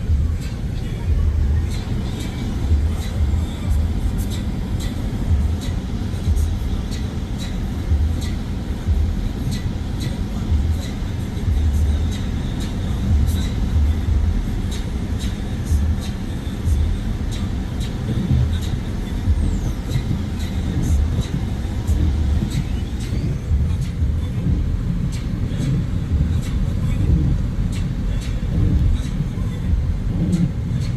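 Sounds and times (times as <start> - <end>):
car tyres and engine rumbling: 0.0 - 30.9.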